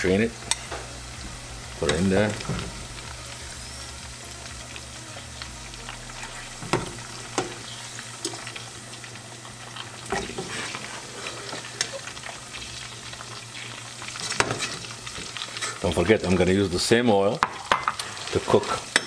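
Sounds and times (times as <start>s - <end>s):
fries sizzling in hot oil: 0.0s - 19.0s.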